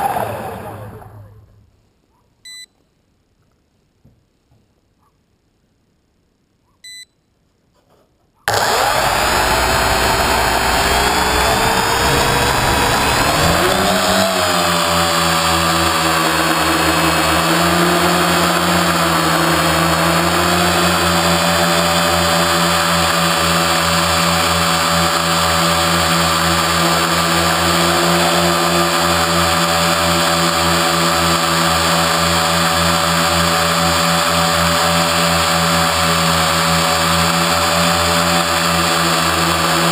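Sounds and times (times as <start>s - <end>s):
drone propellers whirring: 0.0s - 1.6s, 8.5s - 39.9s.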